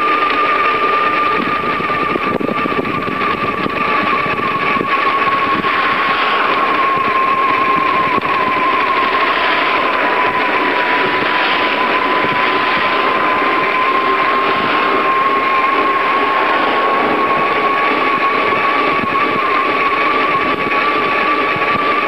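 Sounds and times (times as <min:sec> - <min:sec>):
steady high whine: 0:00.0 - 0:22.0
wind rushing over microphone: 0:00.9 - 0:22.0.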